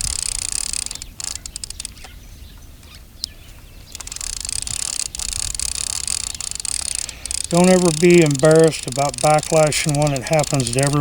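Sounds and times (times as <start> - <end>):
fishing reel whirring: 0.0 - 2.0, 3.9 - 11.0.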